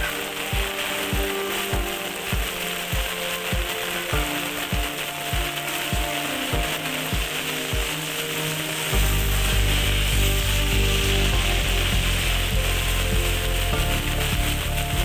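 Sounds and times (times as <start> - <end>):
heavy rain on street: 0.0 - 15.0
soft sustained tones: 0.0 - 15.0.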